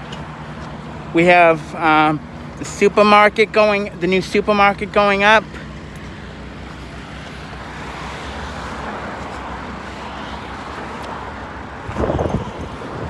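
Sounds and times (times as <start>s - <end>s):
passing cars on road: 0.0s - 13.0s.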